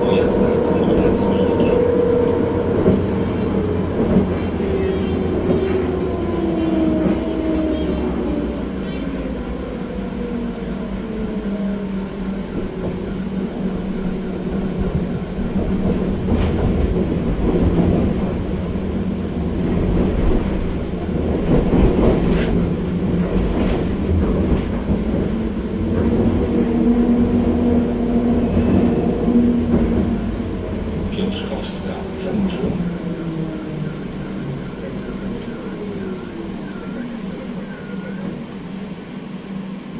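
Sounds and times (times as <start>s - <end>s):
tram traction drive hum: 0.0s - 39.9s
wheel-on-rail rumble: 0.0s - 39.9s.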